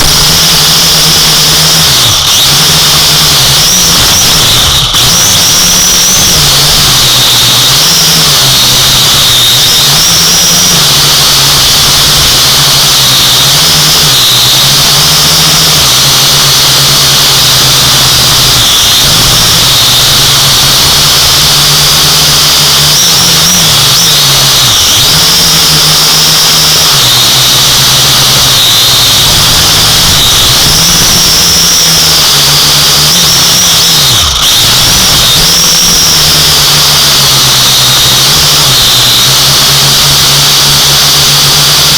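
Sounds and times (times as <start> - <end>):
drone propellers whining: 0.0 - 41.9.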